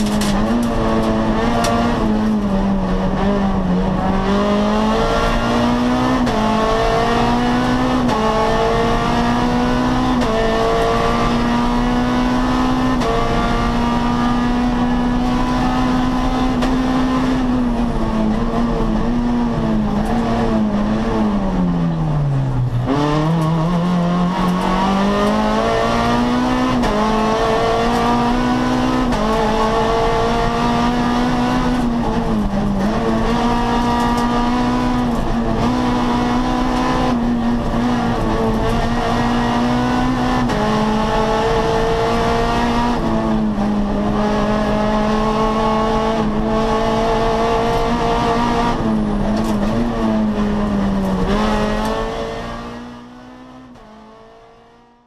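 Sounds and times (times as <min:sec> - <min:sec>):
rally car engine at high revs: 0:00.0 - 0:55.0.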